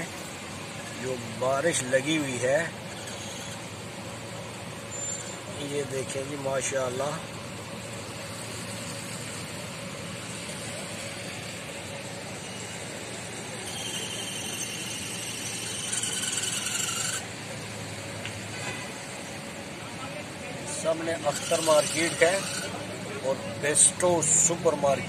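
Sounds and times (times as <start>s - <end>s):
high-pitched squeal: 0.0s - 7.2s, 8.4s - 17.7s, 20.6s - 25.0s
traffic on wet street: 0.0s - 25.0s.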